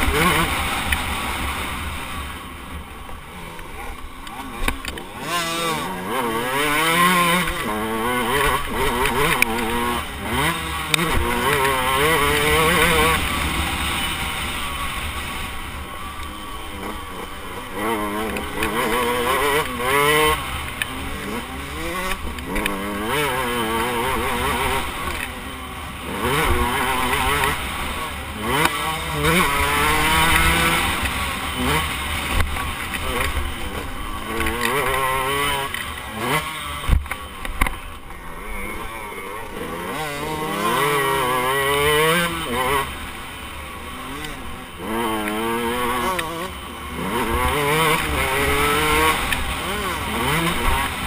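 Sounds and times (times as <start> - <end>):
motocross bike engine revving: 0.0 - 51.0.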